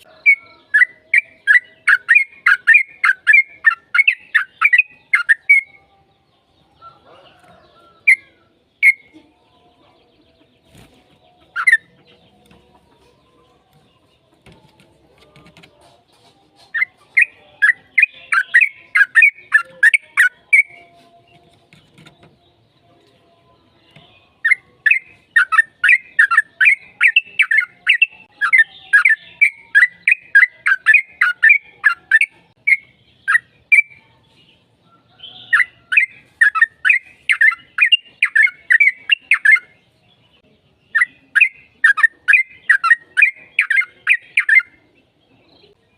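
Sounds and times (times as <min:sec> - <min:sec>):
bird chattering song: 0:00.0 - 0:09.2, 0:10.3 - 0:45.9.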